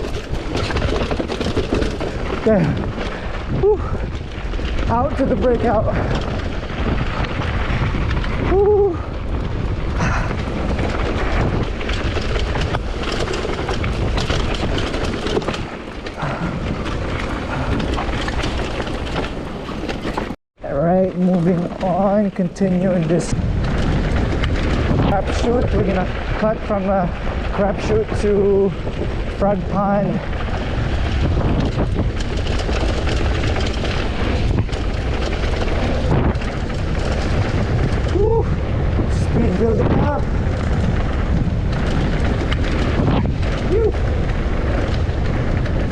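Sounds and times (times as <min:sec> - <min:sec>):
bike rattling over bumps: 0:00.0 - 0:45.9
wind and knobby tyres rushing: 0:00.0 - 0:45.9.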